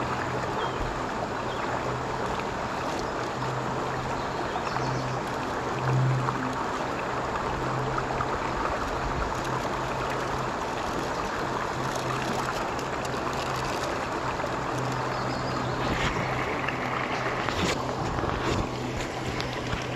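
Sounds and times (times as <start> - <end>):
creek water babbling over rocks: 0.0 - 19.9
low hum: 0.0 - 19.9.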